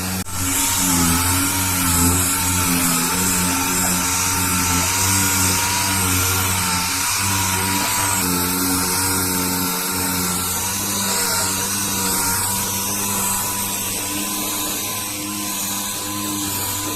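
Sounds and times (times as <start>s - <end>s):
power sander running: 0.0s - 16.9s.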